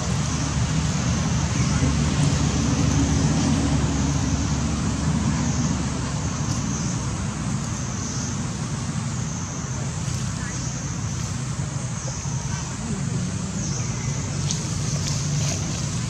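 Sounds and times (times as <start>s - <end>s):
deep continuous rumble: 0.0s - 16.0s
steady high hiss: 0.0s - 16.0s.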